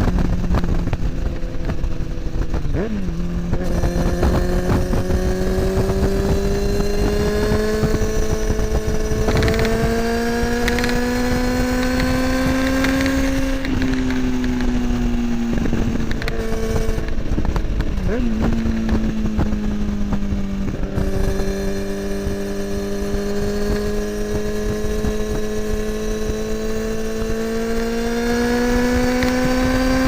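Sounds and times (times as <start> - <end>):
motorcycle engine revving: 0.0 - 30.0
wind on microphone: 0.0 - 30.0
motorcycle gear change: 0.1 - 30.0.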